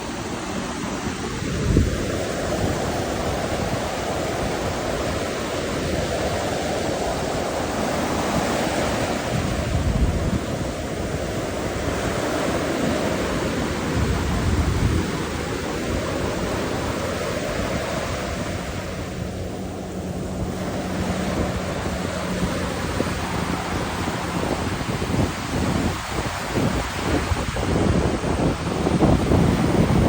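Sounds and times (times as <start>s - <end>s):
surf rushing: 0.0s - 30.0s
wind: 0.0s - 30.0s
wind buffeting microphone: 0.0s - 30.0s.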